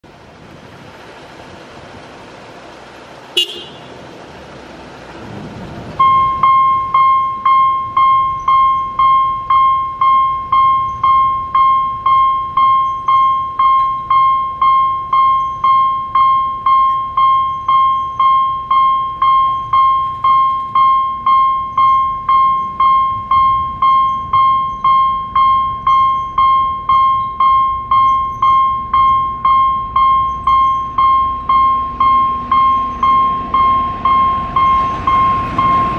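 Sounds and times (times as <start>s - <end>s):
level crossing warning bell: 6.0s - 35.9s.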